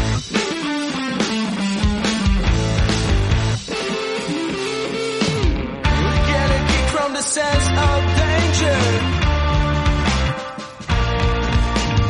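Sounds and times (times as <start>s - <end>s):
instrumental song with drum hits: 0.0s - 12.0s.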